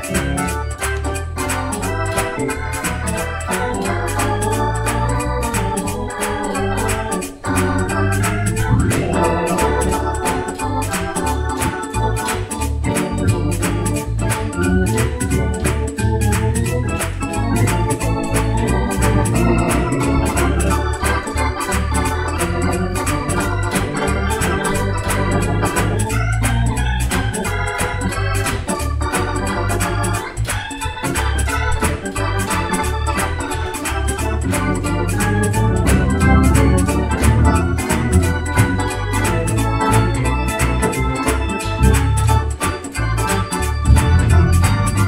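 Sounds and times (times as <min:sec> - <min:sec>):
organ playing a hymn tune: 0:00.0 - 0:45.0.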